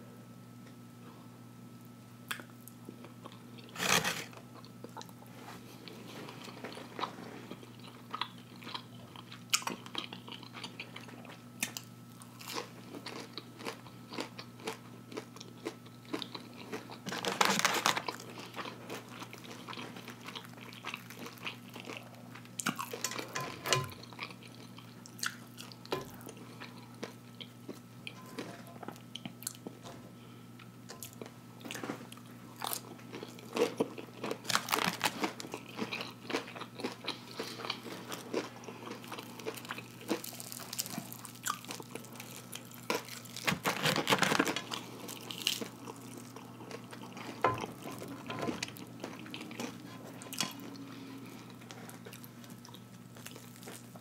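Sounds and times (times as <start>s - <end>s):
chewing crunchy fried fish: 2.3s - 54.0s.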